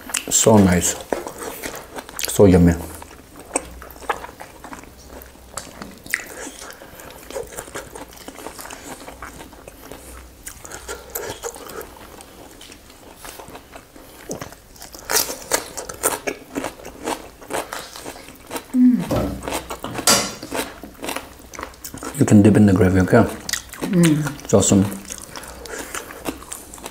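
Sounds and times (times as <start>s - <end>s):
chewing crunchy chicken: 0.0s - 18.8s, 19.4s - 26.9s.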